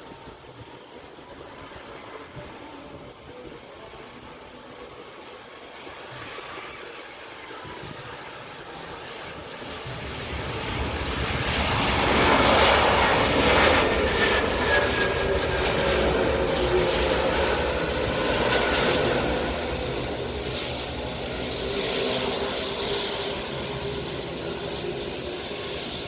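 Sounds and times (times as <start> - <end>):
jet airliner engine noise: 0.0 - 26.0.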